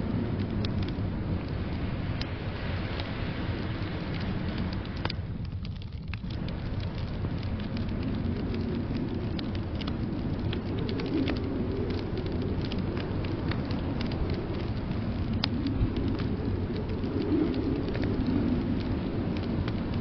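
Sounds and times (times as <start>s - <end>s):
blizzard wind rumbling: 0.0s - 20.0s
wood fire crackling and popping: 0.0s - 20.0s.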